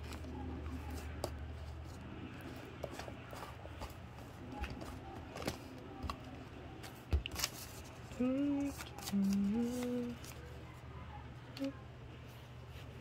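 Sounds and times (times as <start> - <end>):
cardboard and paper rustling: 0.0 - 10.8.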